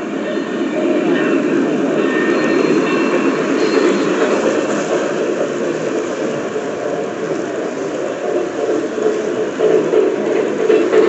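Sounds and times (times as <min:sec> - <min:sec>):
model trains rolling on track: 0:00.0 - 0:11.0.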